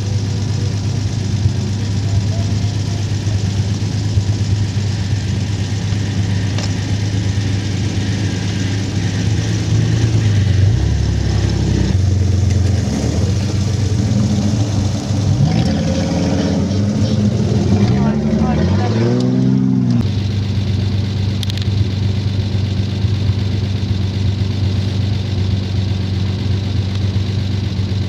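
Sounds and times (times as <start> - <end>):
vehicle engine revving: 0.0 - 27.7.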